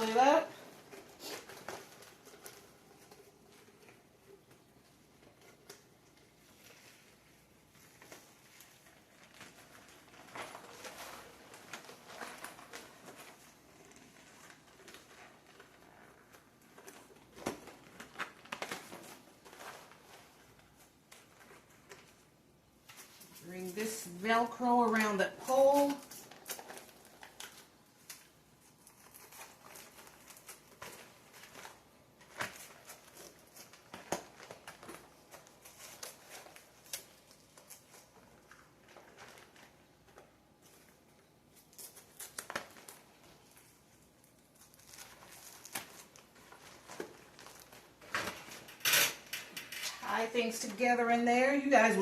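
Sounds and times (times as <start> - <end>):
plastic cover rustling: 0.0 - 52.0.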